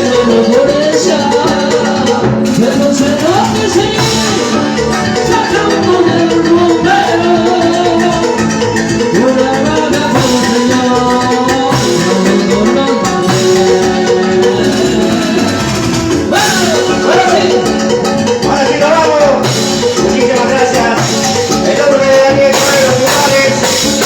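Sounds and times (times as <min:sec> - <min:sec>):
latin dance music: 0:00.0 - 0:24.0.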